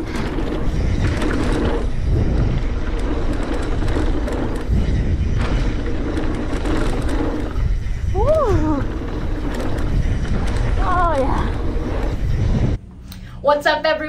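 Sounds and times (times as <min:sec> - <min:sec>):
bike rattling over bumps: 0:00.0 - 0:12.8
bike tyres rolling on dirt: 0:00.0 - 0:12.8
wind rushing over microphone: 0:00.0 - 0:12.8.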